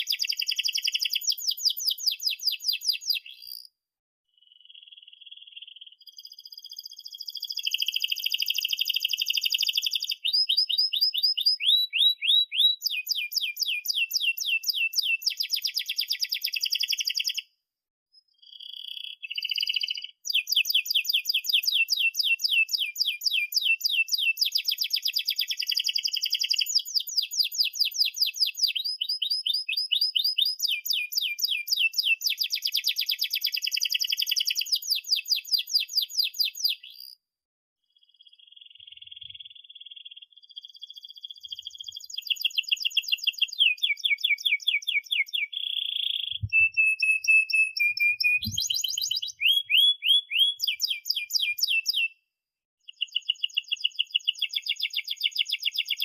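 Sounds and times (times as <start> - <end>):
canary singing trills: 0.0 - 3.7, 4.4 - 17.5, 18.2 - 37.2, 38.0 - 52.2, 52.8 - 56.0.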